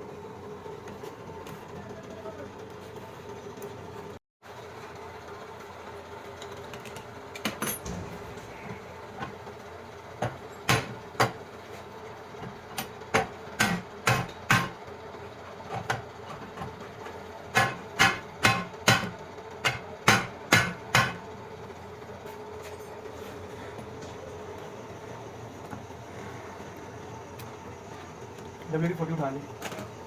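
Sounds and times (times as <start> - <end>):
steady workshop hum: 0.0 - 30.0.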